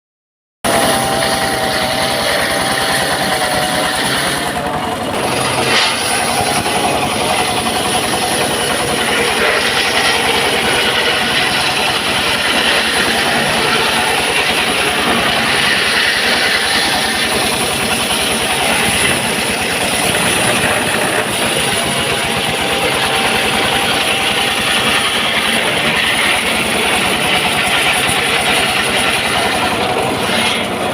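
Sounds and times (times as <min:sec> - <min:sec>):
circular saw cutting log: 0:00.7 - 0:30.9.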